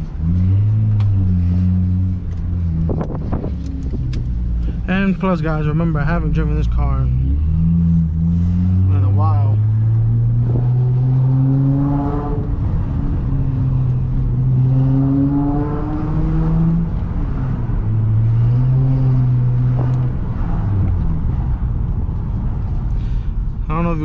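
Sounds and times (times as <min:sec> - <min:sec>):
car engine accelerating: 0:00.0 - 0:23.8.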